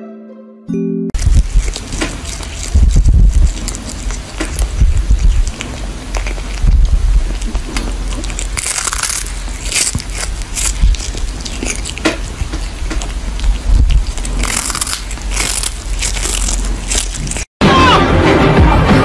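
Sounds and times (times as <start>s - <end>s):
kitten crunching fish: 1.2s - 17.5s.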